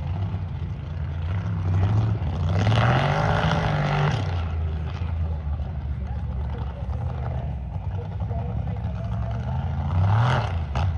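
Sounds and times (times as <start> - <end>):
truck engine revving: 0.0 - 10.9.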